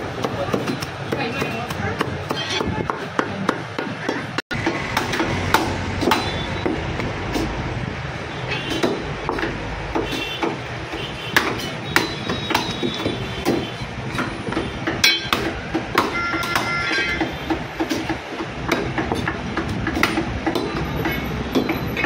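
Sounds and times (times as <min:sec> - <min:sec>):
cleaver chopping bones on wood: 0:00.0 - 0:07.5, 0:08.7 - 0:10.6, 0:11.3 - 0:21.8.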